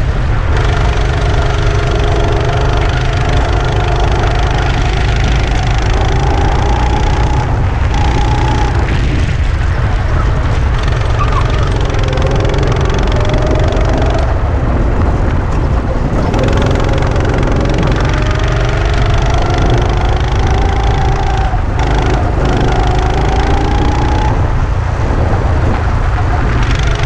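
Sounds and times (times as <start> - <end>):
go-kart engine running hard: 0.0 - 27.0
wind rumble on microphone: 0.0 - 27.0.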